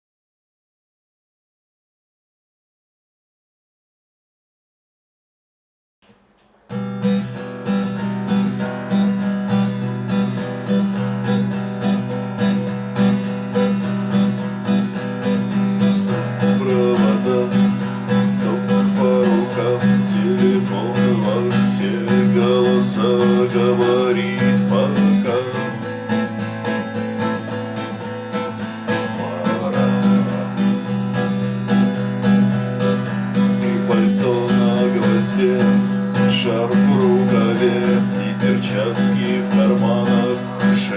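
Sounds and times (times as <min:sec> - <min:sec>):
acoustic guitar strumming: 0:06.1 - 0:40.9.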